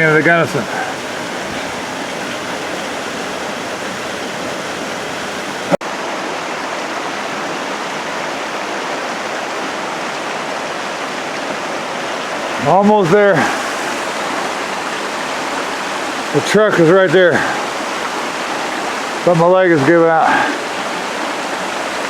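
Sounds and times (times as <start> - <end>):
fast-flowing water rushing: 0.0 - 22.0.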